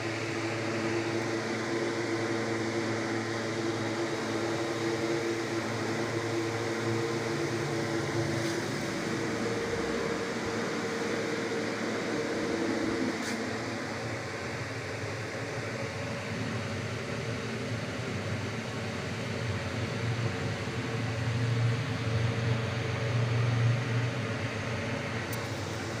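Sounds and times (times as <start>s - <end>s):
refrigerator compressor humming: 0.0s - 26.0s.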